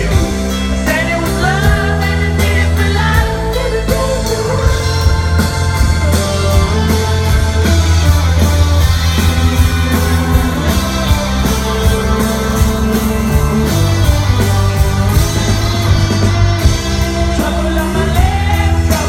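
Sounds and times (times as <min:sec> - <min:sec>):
bass line: 0:00.0 - 0:19.0
electric guitar chords: 0:00.0 - 0:19.0
steady drum beat: 0:00.0 - 0:19.0.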